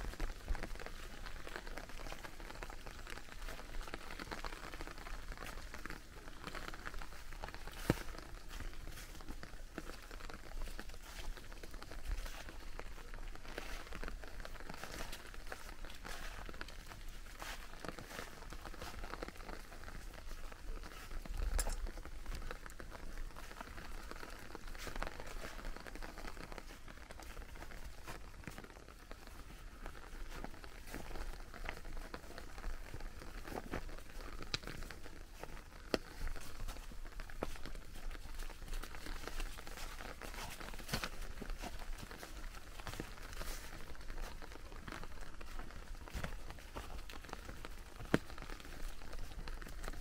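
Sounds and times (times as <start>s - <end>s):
light rain patter: 0.0s - 50.0s
small drips and ticks: 0.0s - 50.0s.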